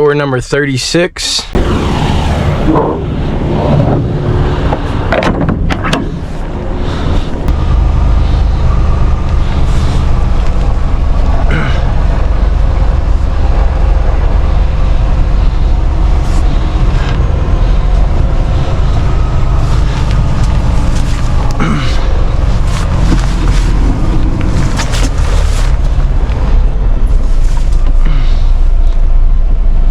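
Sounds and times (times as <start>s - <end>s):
truck diesel engine running: 1.5s - 29.9s.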